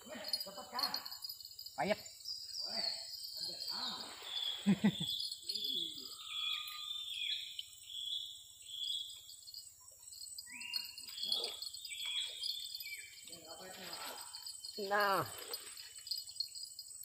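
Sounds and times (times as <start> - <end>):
birds chirping and whistling: 0.0 - 17.0
insects calling: 0.0 - 17.0.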